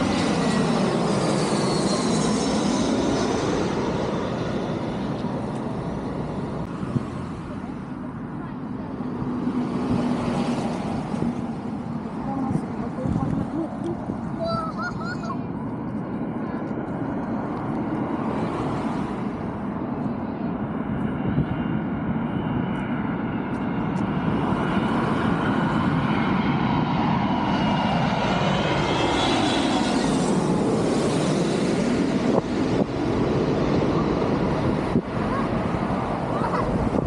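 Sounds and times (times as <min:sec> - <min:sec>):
jet airliner passing overhead: 0:00.0 - 0:37.0.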